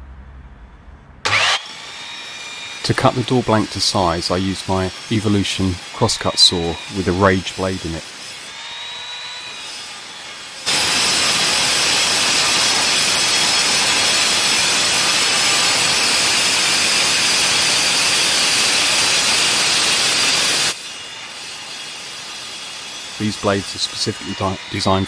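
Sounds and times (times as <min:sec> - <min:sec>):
saw cutting through steel: 0:01.2 - 0:25.0.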